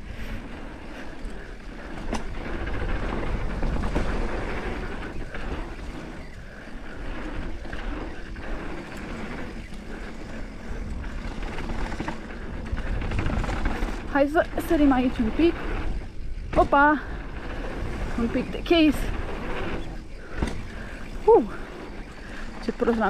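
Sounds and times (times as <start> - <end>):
bike rattling and knocking: 0.0 - 23.0
tyres rumbling on dirt: 0.0 - 23.0
wind buffeting microphone: 0.0 - 23.0.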